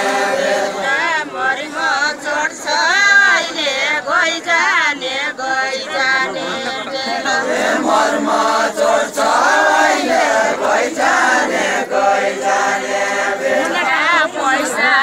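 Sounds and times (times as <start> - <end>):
group singing together: 0.0 - 15.0.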